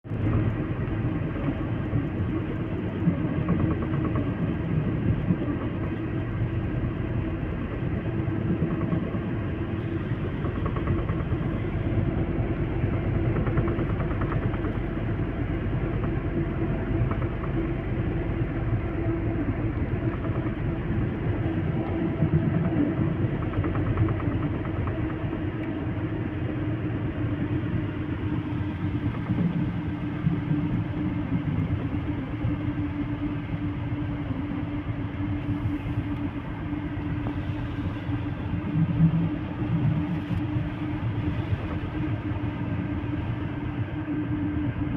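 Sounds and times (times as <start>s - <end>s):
heavy machinery engines rumbling: 0.1s - 44.9s.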